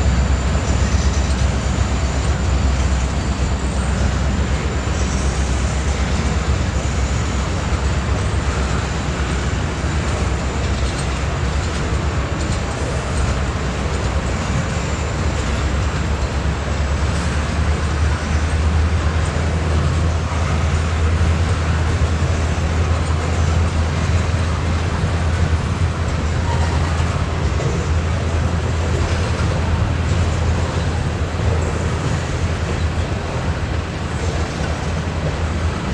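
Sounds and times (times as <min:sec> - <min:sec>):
freight train low rumble: 0:00.0 - 0:35.9
rail noise: 0:00.0 - 0:35.9.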